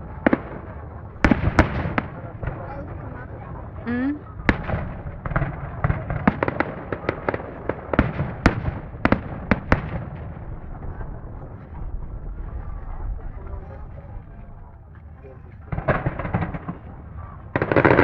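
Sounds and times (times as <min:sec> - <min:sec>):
fireworks bangs: 0:00.0 - 0:13.2, 0:15.6 - 0:18.0
low rumbling crackle: 0:00.0 - 0:18.0.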